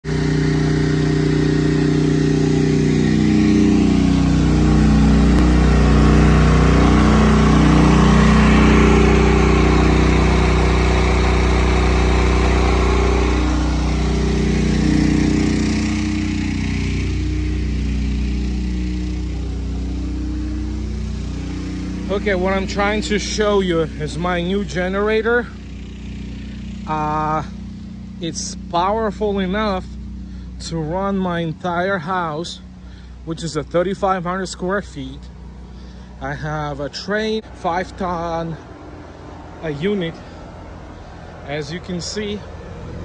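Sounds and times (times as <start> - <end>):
generator engine running: 0.0 - 43.0.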